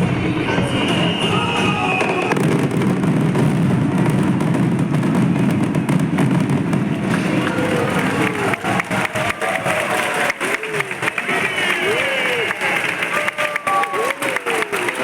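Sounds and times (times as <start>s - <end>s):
fireworks crackling bursts: 0.5s - 15.0s.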